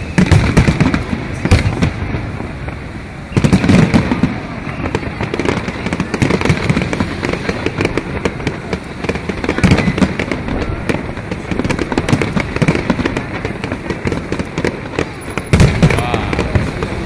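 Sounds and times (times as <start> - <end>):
firework crackling: 0.0 - 17.0
firework shells bursting: 0.0 - 17.0.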